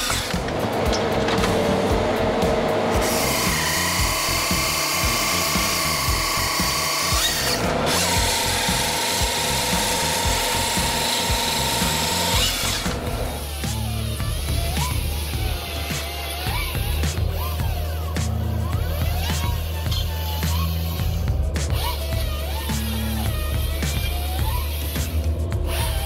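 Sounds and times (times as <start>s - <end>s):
chainsaw whining through log: 0.0s - 26.0s.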